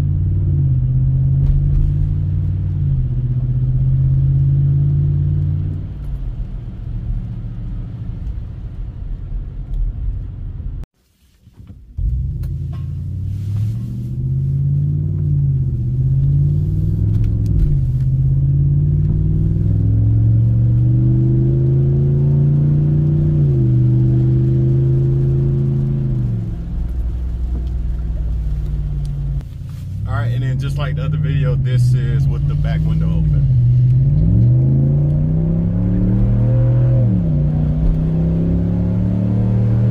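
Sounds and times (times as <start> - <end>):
truck exhaust while accelerating: 0.0 - 10.8, 12.0 - 39.9.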